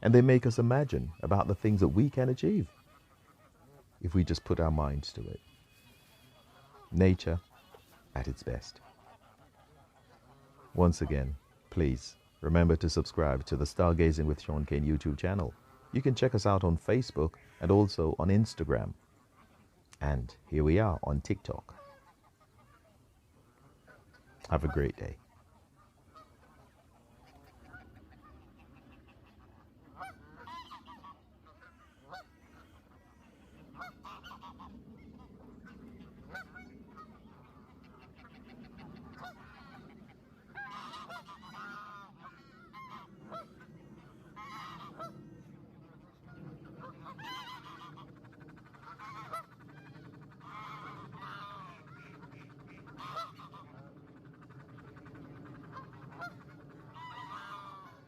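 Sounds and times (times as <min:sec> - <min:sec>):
birds calling: 0:00.0 - 0:58.0.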